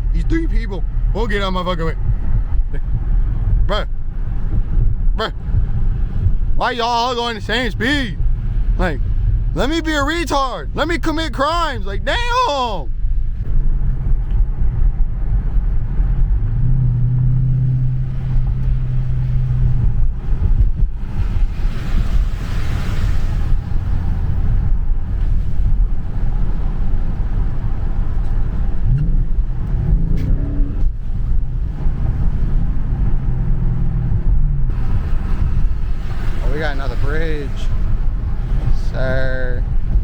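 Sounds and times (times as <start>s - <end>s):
car engine droning while driving: 0.0s - 40.0s.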